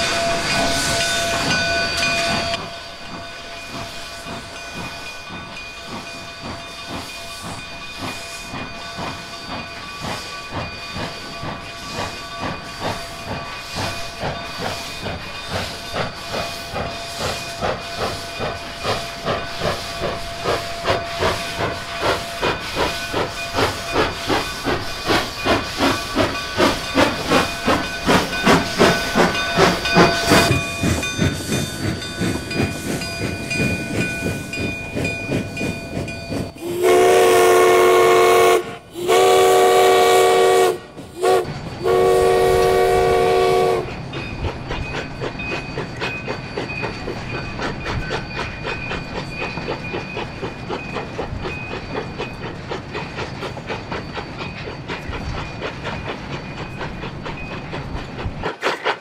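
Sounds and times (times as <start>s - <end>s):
steam hiss: 0.0s - 59.0s
steam locomotive chuffing: 0.0s - 59.0s.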